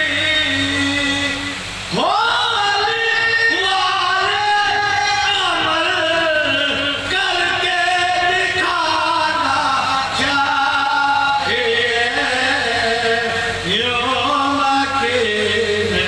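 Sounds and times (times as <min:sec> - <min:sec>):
men chanting through microphone: 0:00.0 - 0:16.0.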